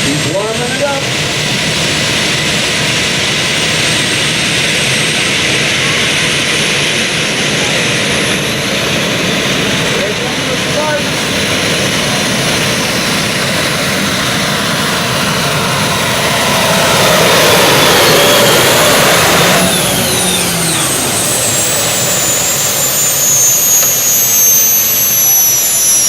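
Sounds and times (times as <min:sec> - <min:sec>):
high whines gliding down: 0:00.0 - 0:26.0
loud aircraft engine running: 0:00.0 - 0:26.0.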